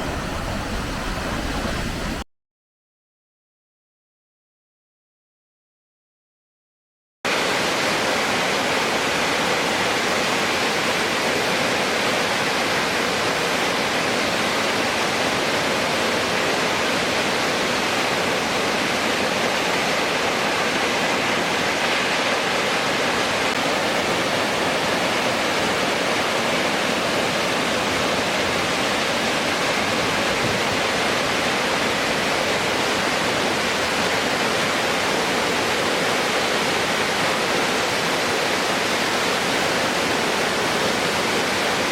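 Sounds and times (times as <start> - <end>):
waterfall rushing: 0.0 - 2.2, 7.3 - 41.9.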